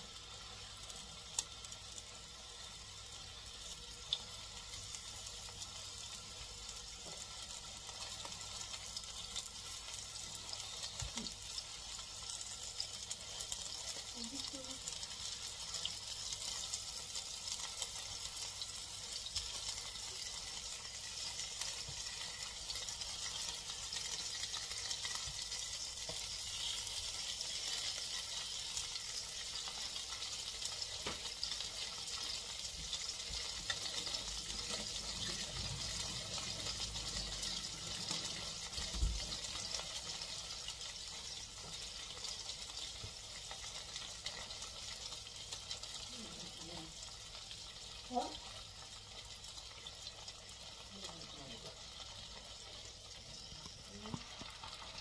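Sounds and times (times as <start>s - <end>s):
chicken sizzling in frypan: 0.0s - 55.0s.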